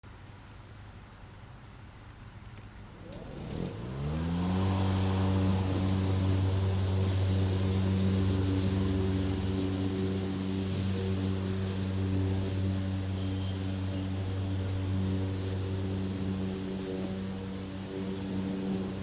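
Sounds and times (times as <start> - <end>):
lawn mower engine starting: 2.9 - 19.0.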